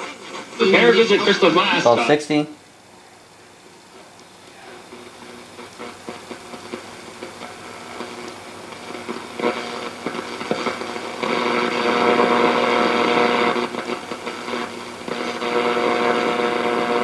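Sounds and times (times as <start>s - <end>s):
radio clicks and crackle: 0.0s - 2.2s, 3.8s - 17.0s
radio interference hum: 0.0s - 17.0s.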